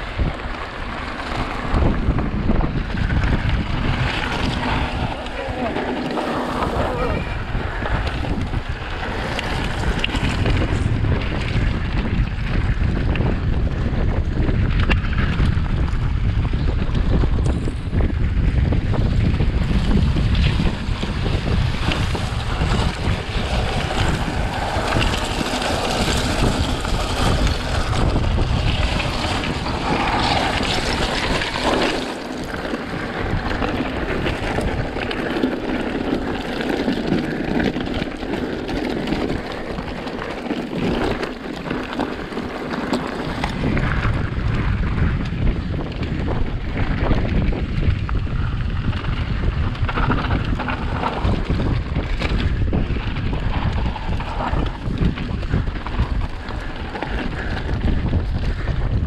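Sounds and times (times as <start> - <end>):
bike tyres crunching on scree: 0.0 - 59.0
wind buffeting microphone: 0.0 - 59.0.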